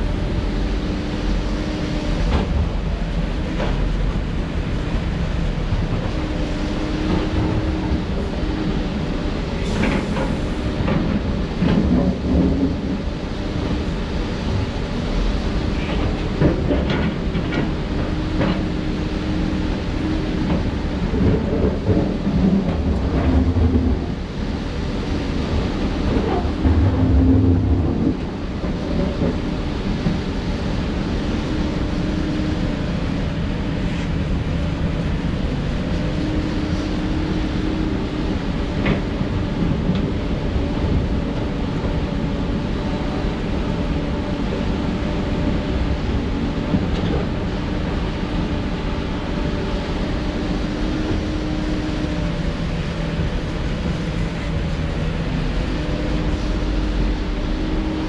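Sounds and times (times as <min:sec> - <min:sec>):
heavy diesel machinery rumbling: 0:00.0 - 0:58.0.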